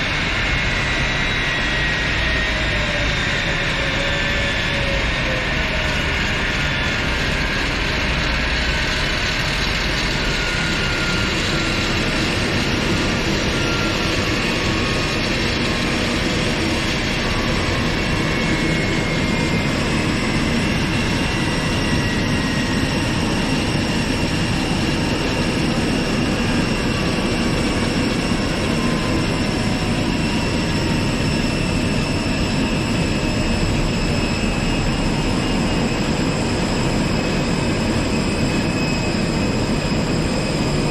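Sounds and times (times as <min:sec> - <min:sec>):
high turbine whine: 0:00.0 - 0:40.9
jet turbine rumble: 0:00.0 - 0:40.9.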